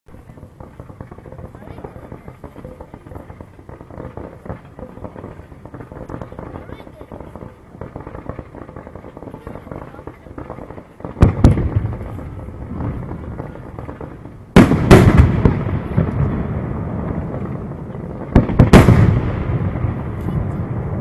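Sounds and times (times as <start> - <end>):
fireworks bursting: 0.1 - 21.0
rolling rumble: 0.1 - 21.0.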